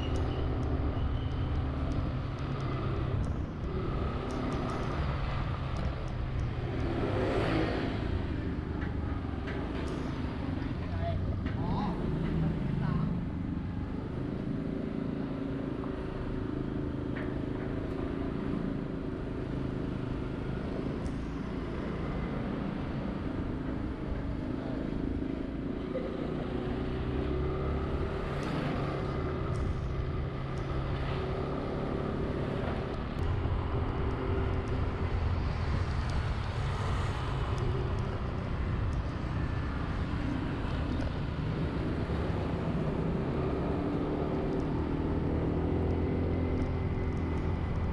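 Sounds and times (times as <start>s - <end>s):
road and traffic noise: 0.0s - 47.9s.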